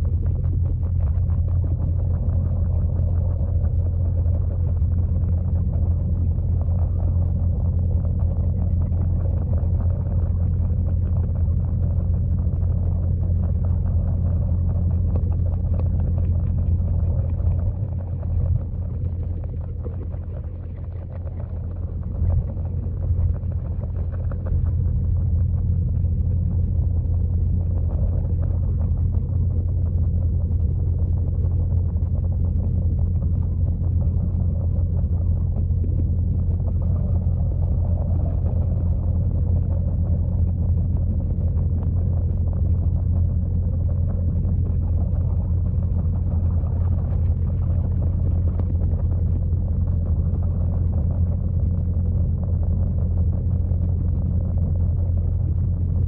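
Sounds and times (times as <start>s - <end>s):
underwater waterfall rumble: 0.0s - 56.0s.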